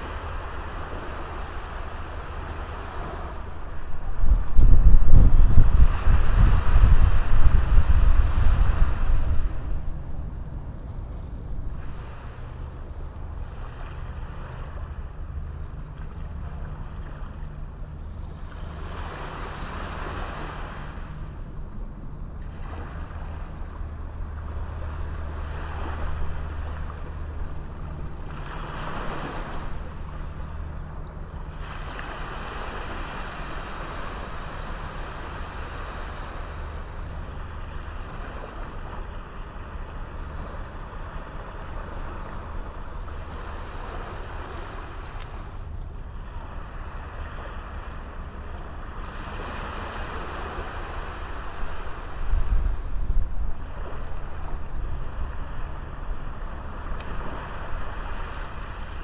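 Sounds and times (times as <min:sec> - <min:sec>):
sea waves washing onto beach: 0:00.0 - 0:59.0
wind rumble on microphone: 0:00.0 - 0:59.0.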